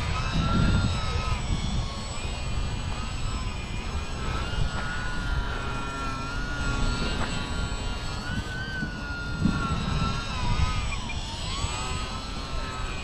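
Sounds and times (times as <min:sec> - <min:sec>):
small electric motor whining: 0:00.0 - 0:13.0
wind buffeting microphone: 0:00.0 - 0:13.0.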